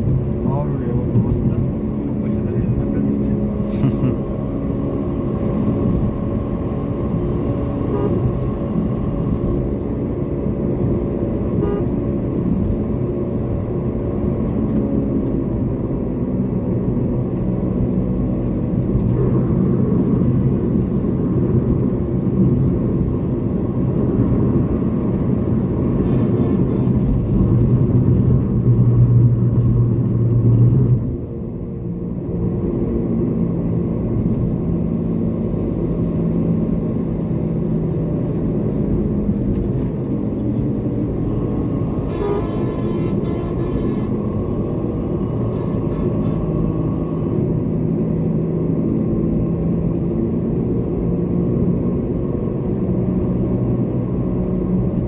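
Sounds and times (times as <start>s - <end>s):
car engine hum: 0.0s - 55.0s
road noise: 0.0s - 55.0s.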